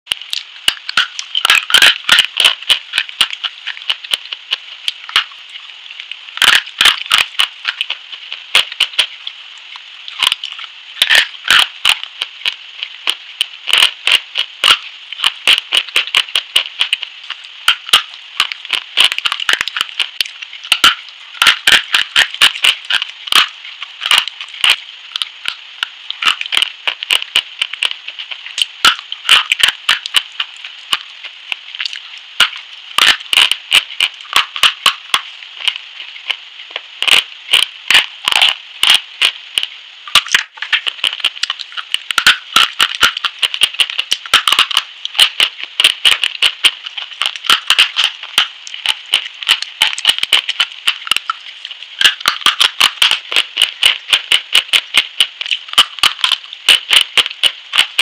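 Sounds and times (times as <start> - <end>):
crunching and chewing hard bar: 0.1 - 58.0.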